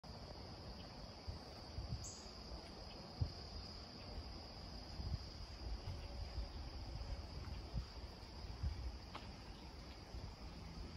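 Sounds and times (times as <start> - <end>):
insects trilling: 0.0 - 10.9.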